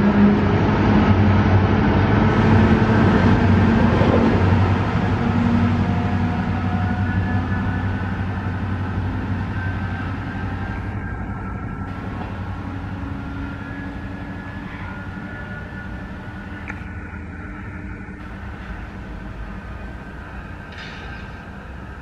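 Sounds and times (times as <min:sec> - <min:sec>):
diesel locomotive engine drone: 0:00.0 - 0:22.0
train rail noise: 0:00.0 - 0:22.0.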